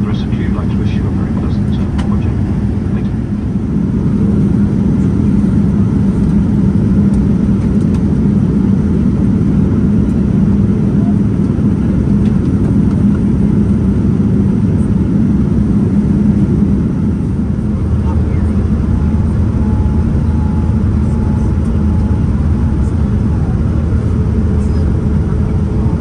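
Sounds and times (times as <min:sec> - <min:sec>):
airliner cabin engine drone: 0:00.0 - 0:26.0
steady low hum: 0:00.0 - 0:26.0.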